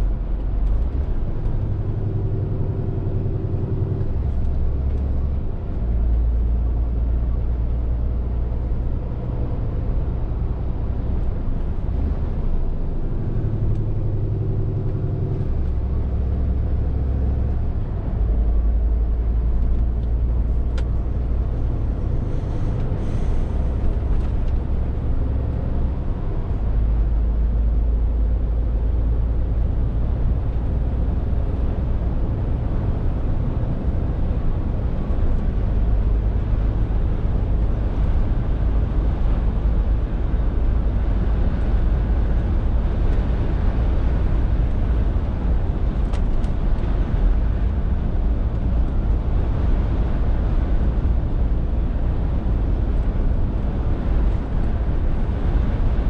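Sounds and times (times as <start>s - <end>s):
lorry diesel engine drone: 0.0s - 56.0s.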